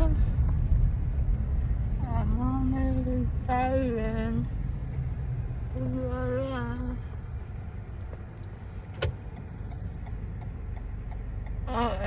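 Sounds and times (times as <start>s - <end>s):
car riding rumble from inside: 0.0s - 12.0s.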